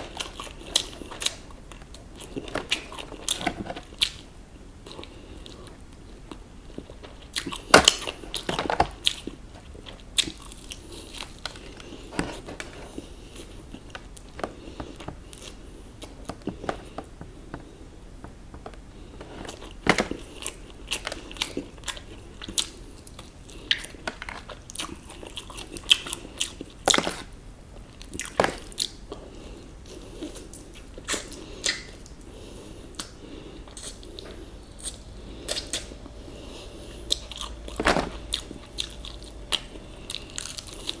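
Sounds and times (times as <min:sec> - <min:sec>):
crunching and chewing fried chicken: 0:00.0 - 0:41.0.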